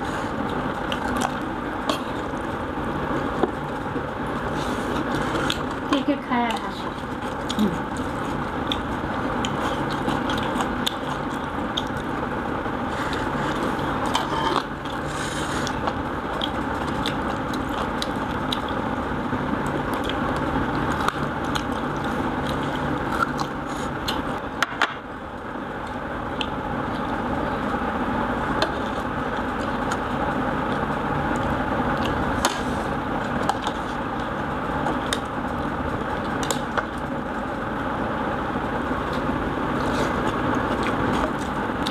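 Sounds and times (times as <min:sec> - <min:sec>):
background hum: 0:00.0 - 0:41.9.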